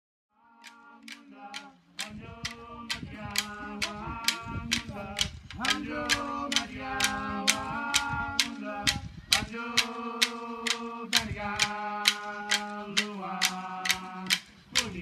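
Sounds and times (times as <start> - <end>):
person chanting held notes: 0.4 - 15.0
sharp rhythmic clicks: 0.6 - 15.0.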